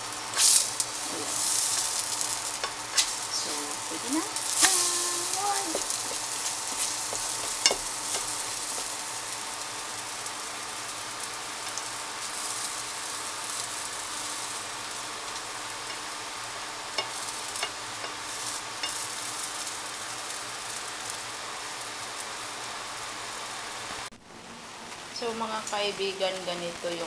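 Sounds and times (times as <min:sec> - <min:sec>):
pancake sizzling in frying pan: 0:00.0 - 0:24.1.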